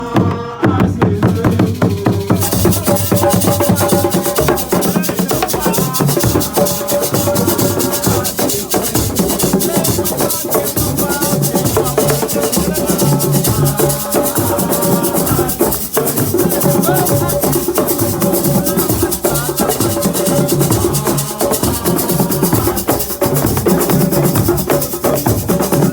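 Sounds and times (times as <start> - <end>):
drums: 0.0 - 25.9
voices singing: 0.0 - 25.9
shaker rattle: 2.0 - 25.9.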